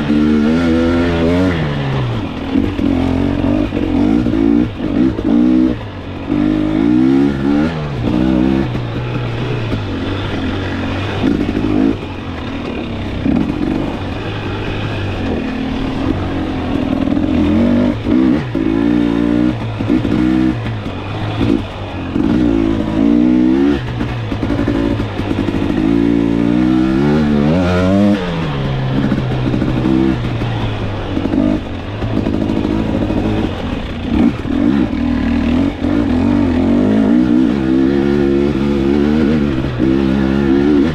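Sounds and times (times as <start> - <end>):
clatter: 0.0 - 40.9
dirt bike engine revving: 0.0 - 40.9.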